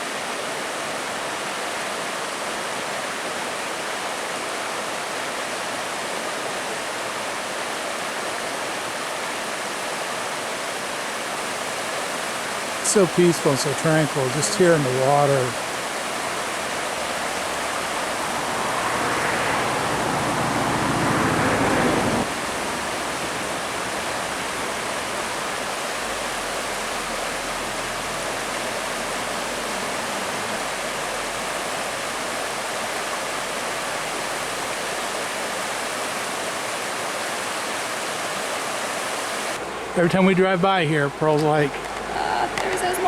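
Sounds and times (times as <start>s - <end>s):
creek water rushing over rocks: 0.0s - 43.0s.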